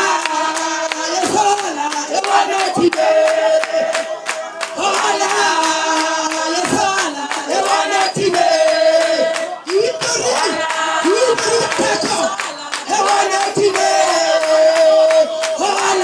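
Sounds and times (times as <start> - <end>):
group singing held notes: 0.0 - 16.0
rhythmic hand clapping: 0.0 - 16.0.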